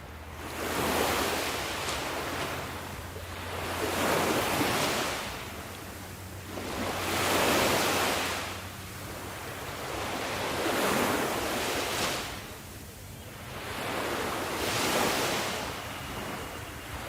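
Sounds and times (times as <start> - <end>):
sea waves surging: 0.0 - 17.0.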